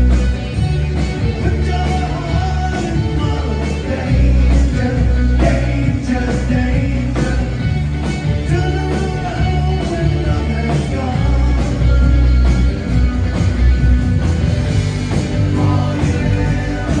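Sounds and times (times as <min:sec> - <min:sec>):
live rock band playing: 0:00.0 - 0:17.0
lead vocal singing: 0:01.0 - 0:12.9, 0:15.2 - 0:17.0.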